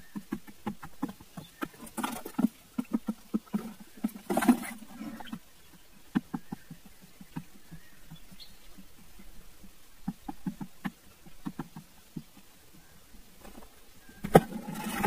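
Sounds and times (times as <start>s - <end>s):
birds pecking taps: 0.0s - 15.0s
birds rustling: 0.0s - 15.0s.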